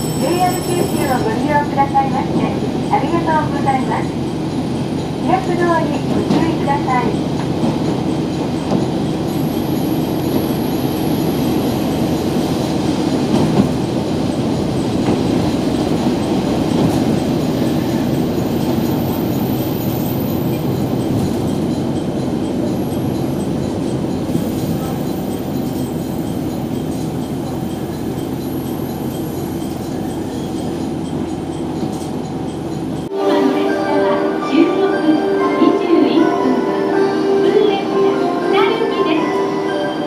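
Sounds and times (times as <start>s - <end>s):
train wheels rumbling on rail: 0.0s - 33.1s.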